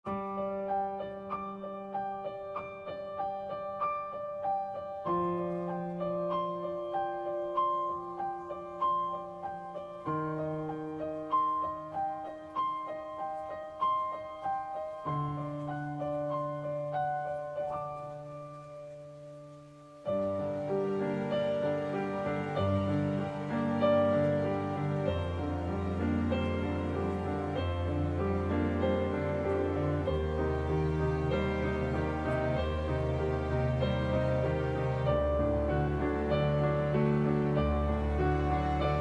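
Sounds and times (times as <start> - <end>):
gentle piano music: 0.0 - 39.0.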